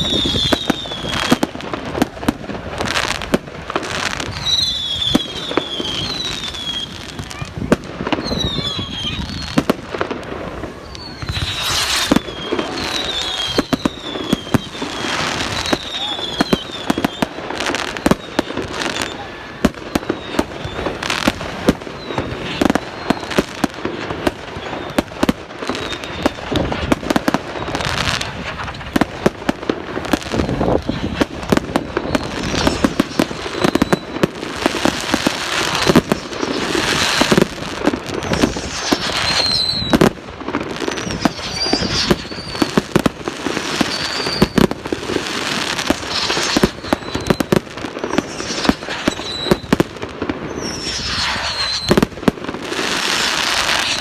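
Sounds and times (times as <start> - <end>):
firework whistles: 0.0 - 54.0
fireworks bangs and crackling: 0.0 - 54.0.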